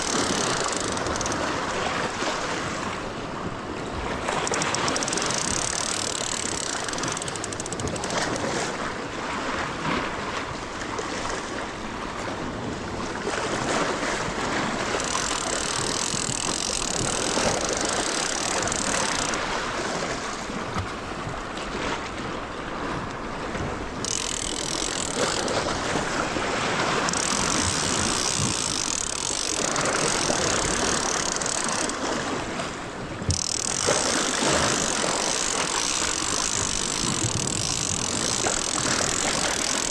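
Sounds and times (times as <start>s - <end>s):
ocean surf on rocky shore: 0.0s - 39.9s.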